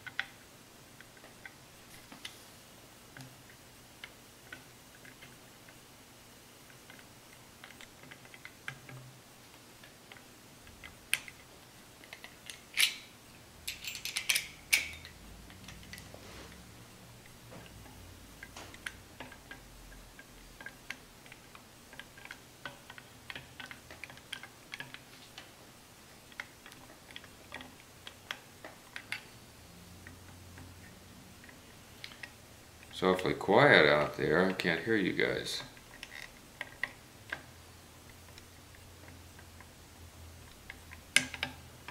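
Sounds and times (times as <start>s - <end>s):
small metallic clicks and ticks: 0.0s - 0.4s, 3.1s - 5.8s, 6.6s - 16.1s, 17.2s - 25.6s, 26.2s - 29.4s, 30.0s - 33.3s, 34.2s - 39.8s, 40.4s - 41.9s.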